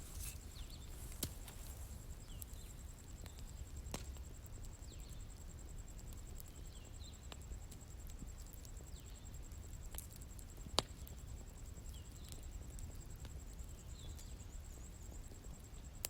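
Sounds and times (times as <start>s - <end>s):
fire crackles and pops: 0.0s - 16.0s.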